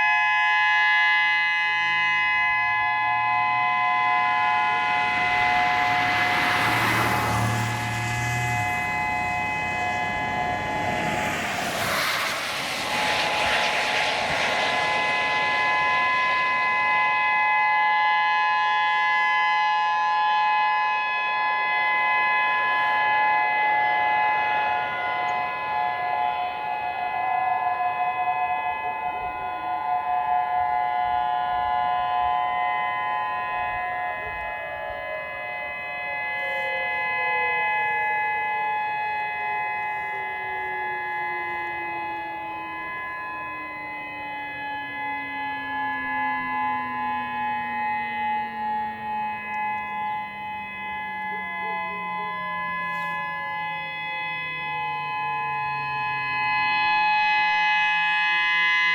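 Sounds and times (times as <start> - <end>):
outdoor warning sirens: 0.0 - 58.9.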